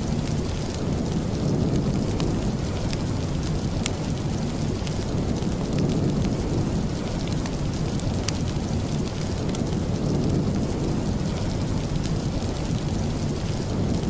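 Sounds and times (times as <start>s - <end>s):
heavy rain: 0.0s - 14.0s
sharp crackles: 0.0s - 14.0s.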